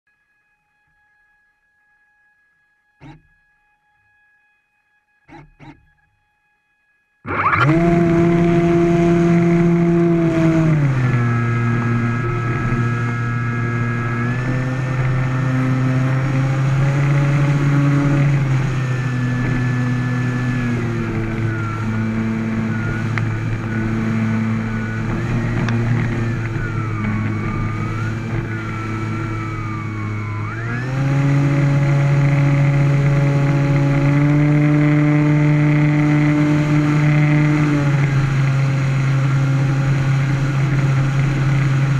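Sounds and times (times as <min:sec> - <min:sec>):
model plane motor droning: 0:00.1 - 0:41.9.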